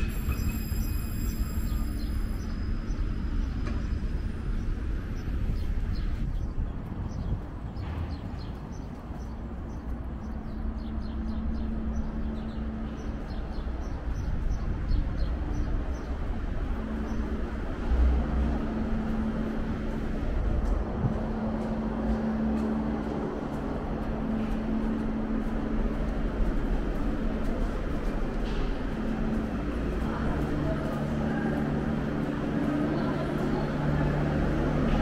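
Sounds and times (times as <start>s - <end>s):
city traffic rumble: 0.0s - 35.0s.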